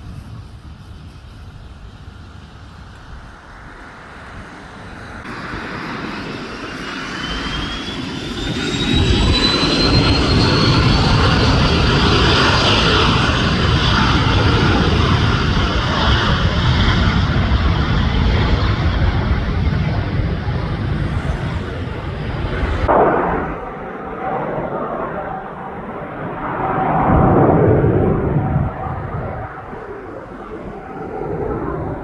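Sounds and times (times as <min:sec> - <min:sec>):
jet engines spooling up: 0:00.0 - 0:32.0.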